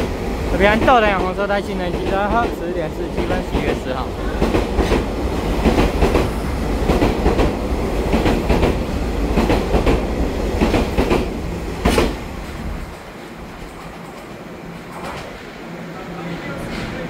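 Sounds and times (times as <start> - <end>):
wheels clacking over rail joints: 0.0 - 15.4
train running rumble: 0.0 - 17.0.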